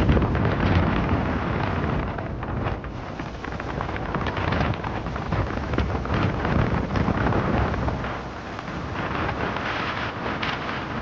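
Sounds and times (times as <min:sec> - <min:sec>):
water splashing along hull: 0:00.0 - 0:11.0
wind buffeting microphone: 0:00.0 - 0:11.0.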